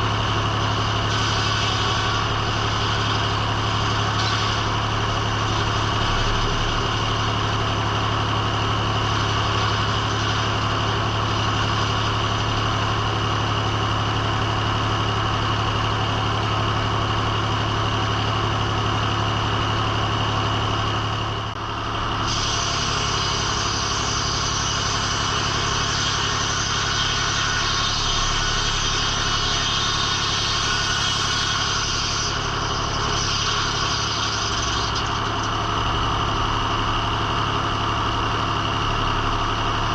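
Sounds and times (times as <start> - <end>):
sawmill running with low hum: 0.0 - 39.9.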